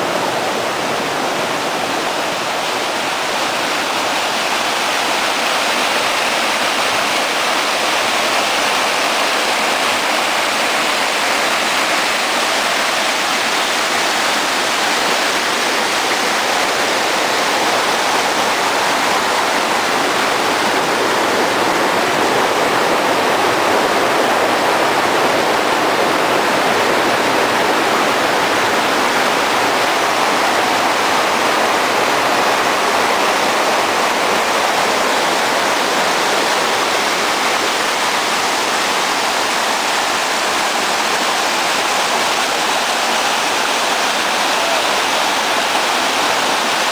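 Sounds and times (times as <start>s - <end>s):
river rushing over boulders: 0.0s - 46.9s.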